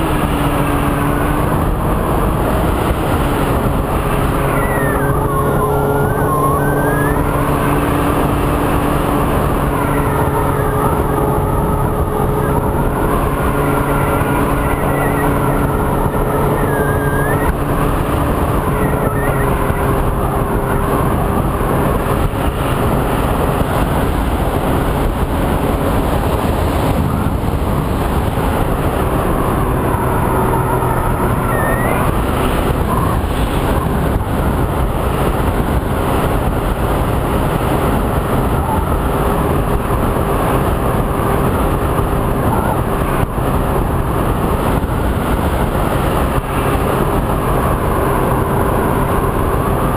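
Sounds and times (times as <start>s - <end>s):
wind rushing on camera: 0.0s - 49.9s.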